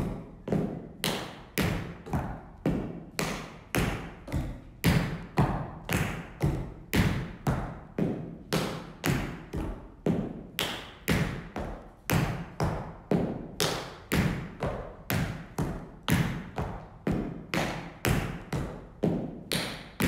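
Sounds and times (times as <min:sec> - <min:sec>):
tap dance steps on a floor: 0:00.0 - 0:20.0.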